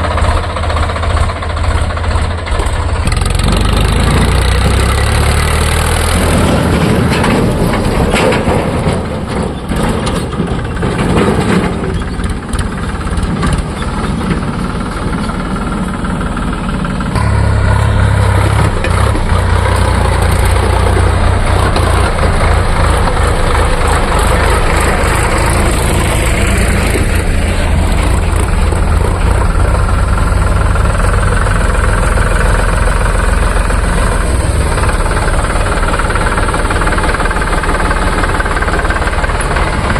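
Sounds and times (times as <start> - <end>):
diesel engines clattering: 0.0 - 39.9.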